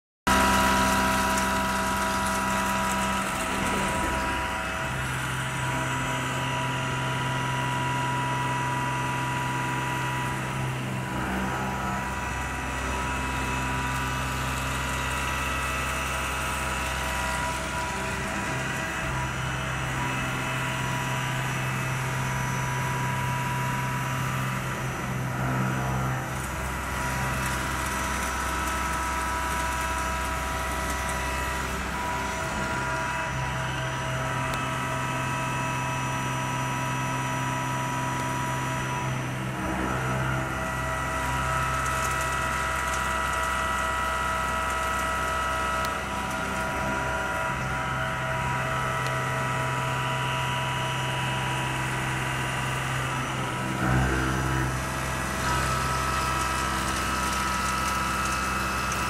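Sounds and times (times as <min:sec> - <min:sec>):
low machine hums: 0:00.3 - 0:59.0
milling machine whine: 0:00.3 - 0:59.0.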